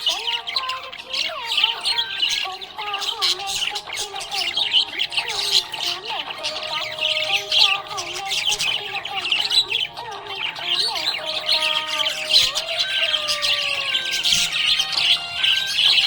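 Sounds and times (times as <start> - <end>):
budgerigars chirping and chattering: 0.0 - 16.0.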